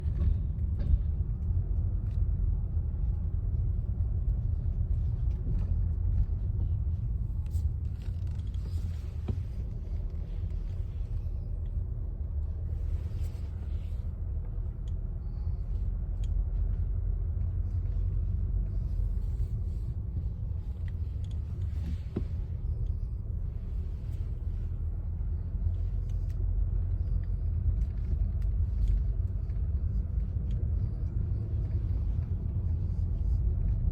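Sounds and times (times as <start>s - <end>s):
car road rumble: 0.0s - 33.9s.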